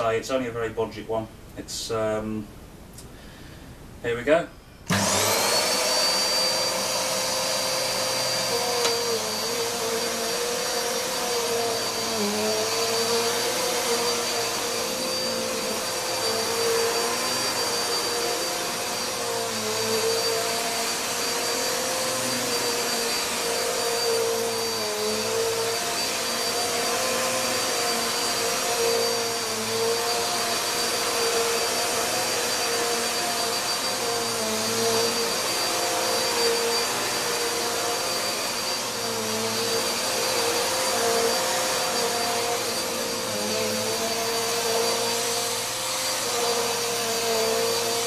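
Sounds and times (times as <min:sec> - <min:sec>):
vacuum cleaner running: 0:04.9 - 0:48.0.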